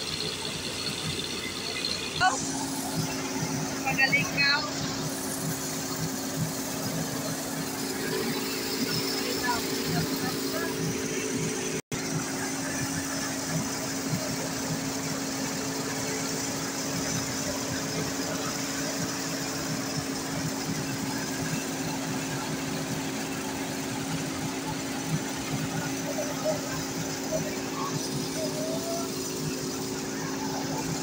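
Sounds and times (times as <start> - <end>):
rice mill humming: 0.0 - 31.0.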